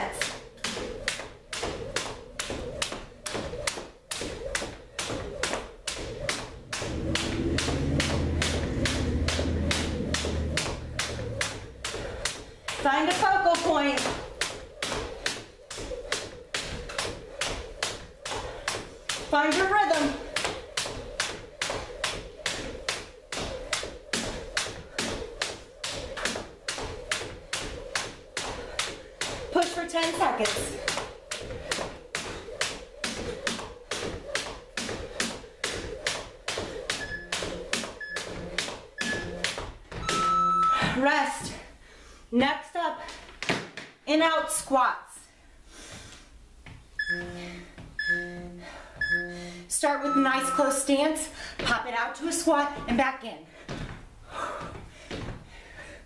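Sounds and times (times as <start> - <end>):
jump rope slapping wooden floor: 0.0 - 41.6, 43.0 - 44.0, 51.4 - 56.0.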